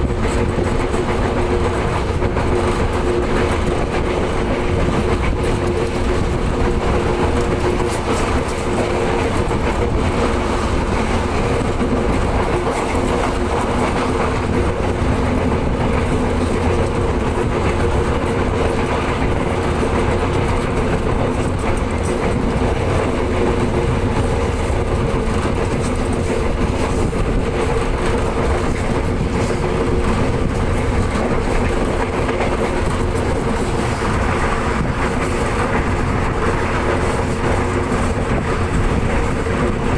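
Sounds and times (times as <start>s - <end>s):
train hum: 0.0s - 39.9s
train rumbling on rails: 0.0s - 39.9s.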